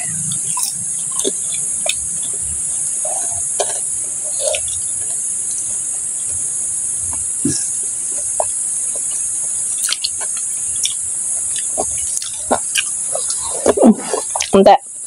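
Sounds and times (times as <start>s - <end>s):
insects droning in chorus: 0.0s - 15.0s.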